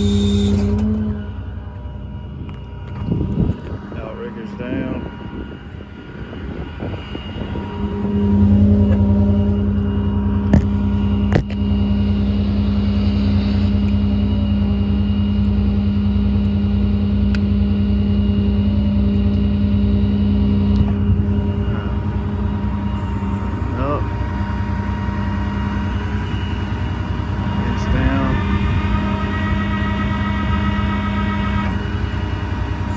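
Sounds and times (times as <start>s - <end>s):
diesel engine running: 0.0s - 32.9s
hydraulic pump hum: 0.0s - 32.9s.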